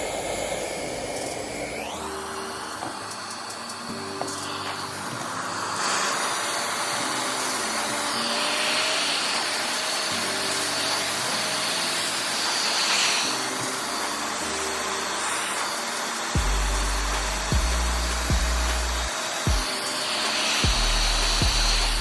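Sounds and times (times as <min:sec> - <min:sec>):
background music: 0:00.0 - 0:22.0
whirring hiss of small blower: 0:00.0 - 0:22.0.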